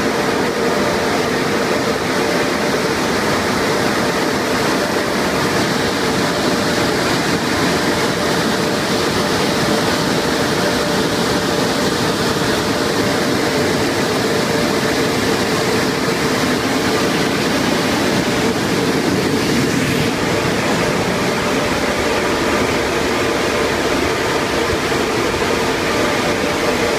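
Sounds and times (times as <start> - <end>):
constant hum: 0.0 - 26.9
dryer blowers rushing air: 0.0 - 26.9.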